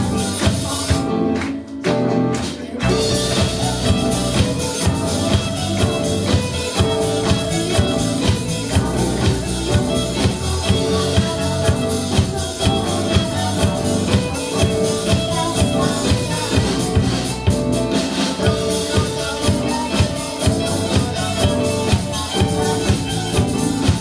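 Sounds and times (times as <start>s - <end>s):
drum kit beat: 0.0s - 24.0s
live band through pa: 0.0s - 24.0s.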